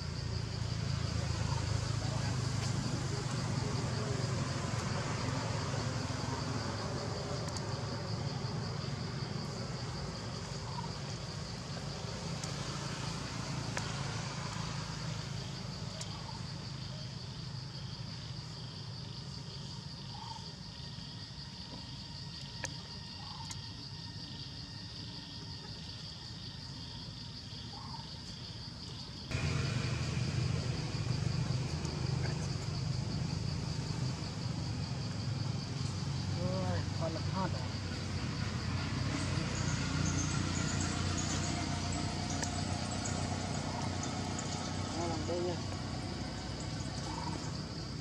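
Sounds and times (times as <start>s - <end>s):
high insect drone: 0.0s - 48.0s.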